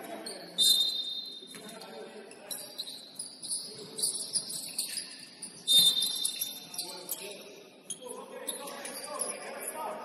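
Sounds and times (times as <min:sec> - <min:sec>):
shoes squeaking on hardwood floor: 0:00.0 - 0:09.6.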